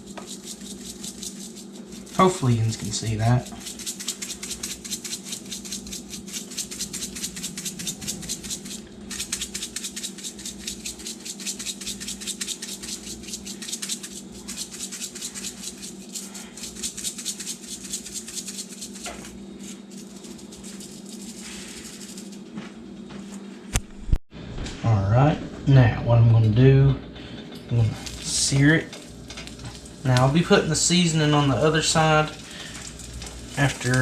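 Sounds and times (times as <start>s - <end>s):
spice shaker rattling: 0.0s - 22.5s, 27.9s - 34.0s
steady low hum: 0.0s - 34.0s.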